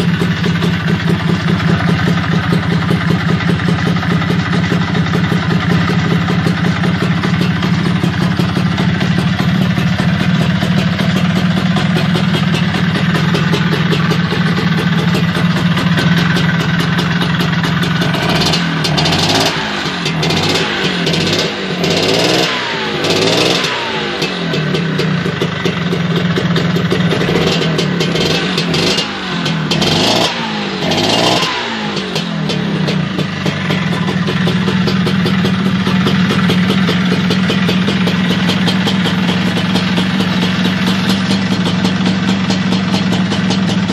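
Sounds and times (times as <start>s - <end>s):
two-stroke scooter engine revving: 0.0s - 43.9s.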